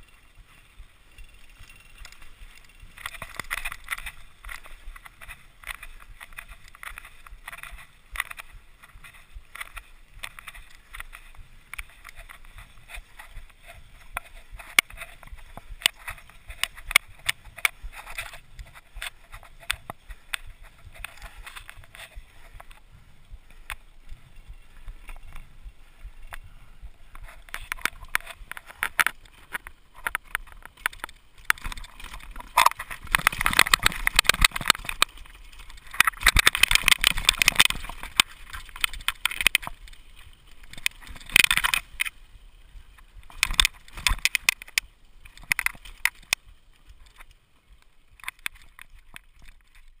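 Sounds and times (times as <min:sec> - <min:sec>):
bike rattling over rocky trail: 0:00.0 - 0:50.0.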